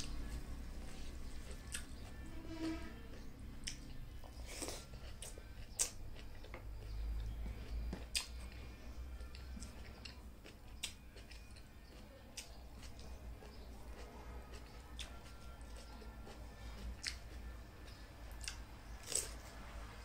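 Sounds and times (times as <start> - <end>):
person chewing food: 0.0 - 2.2, 3.1 - 19.6.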